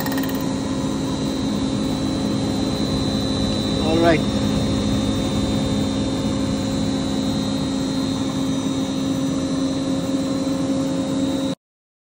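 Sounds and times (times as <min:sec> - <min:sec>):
milling machine humming and whining: 0:00.0 - 0:11.6.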